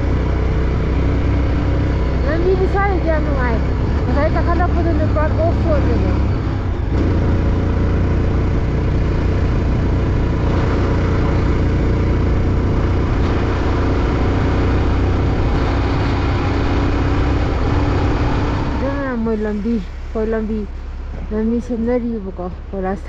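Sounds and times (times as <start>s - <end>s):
road and wind noise: 0.0s - 23.0s
vehicle engine running: 0.0s - 23.0s.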